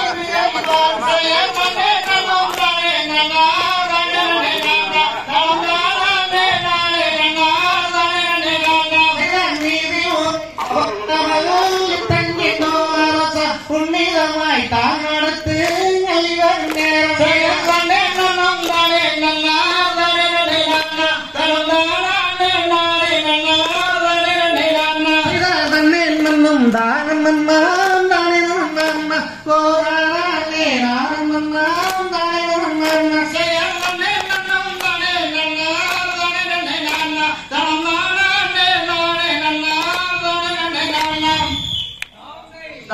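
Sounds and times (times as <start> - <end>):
person singing folk song: 0.0 - 41.9.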